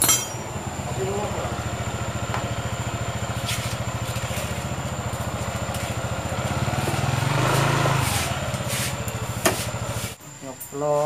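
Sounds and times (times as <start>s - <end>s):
motorcycle engine idling and revving: 0.0s - 10.3s.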